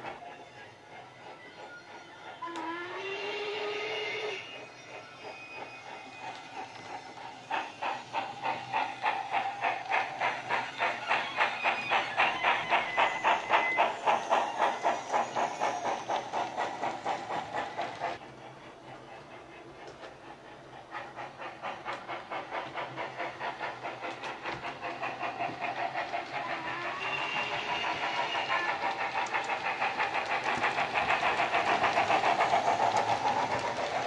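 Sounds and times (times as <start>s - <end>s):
steam exhaust chuffs: 3.1s - 34.0s.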